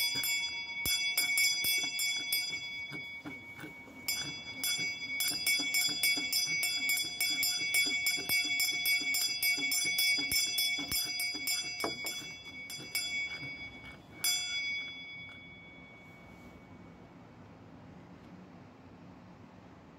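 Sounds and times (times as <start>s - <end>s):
small tuned bells ringing: 0.0s - 17.1s.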